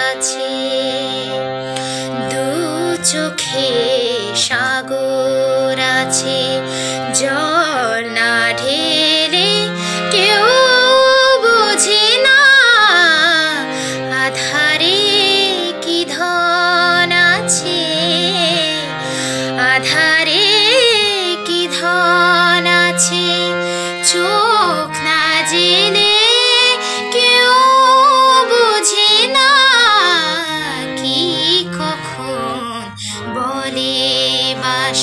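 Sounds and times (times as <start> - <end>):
woman singing: 0.0 - 35.0.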